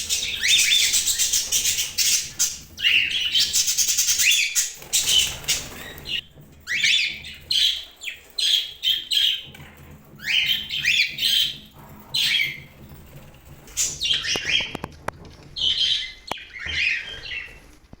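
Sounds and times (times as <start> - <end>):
budgies chirping: 0.0 - 14.8, 15.5 - 17.7.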